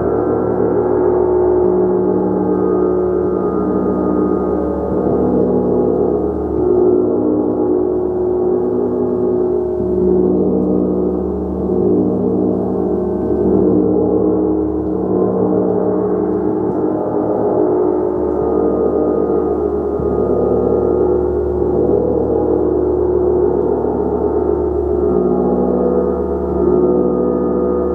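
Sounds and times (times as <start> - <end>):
gong ringing: 0.0 - 27.9.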